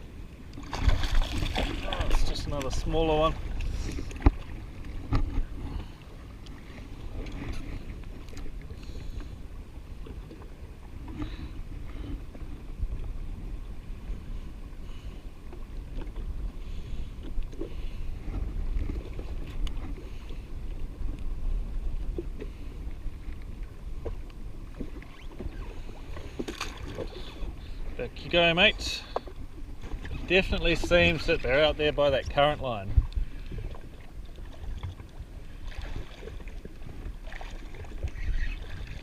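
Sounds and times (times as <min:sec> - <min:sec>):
water lapping against hull: 0:00.0 - 0:39.0
wind buffeting microphone: 0:00.8 - 0:39.0.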